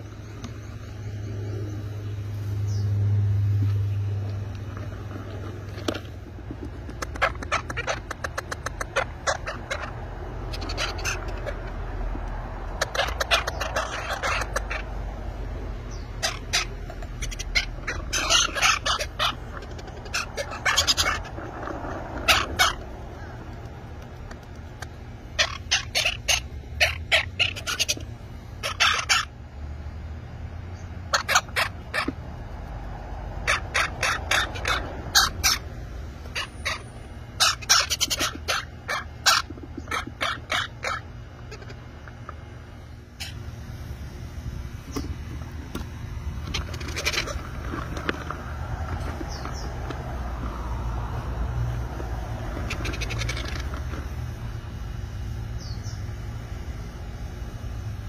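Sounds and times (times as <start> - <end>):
parrot chicks begging calls: 0.0 - 58.0.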